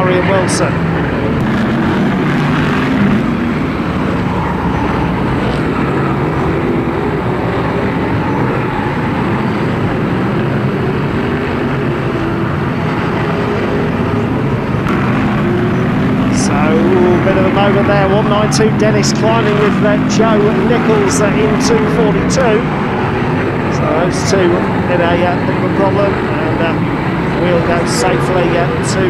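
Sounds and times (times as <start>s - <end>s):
racing car engines: 0.0s - 29.0s.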